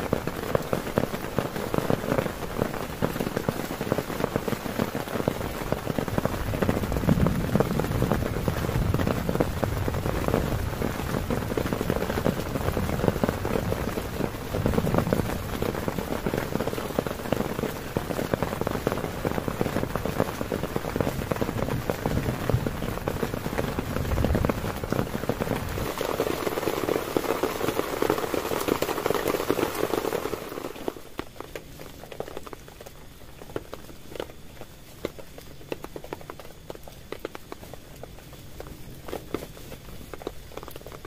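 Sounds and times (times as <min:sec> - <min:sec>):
heavy rain on a tent: 0:00.0 - 0:41.0.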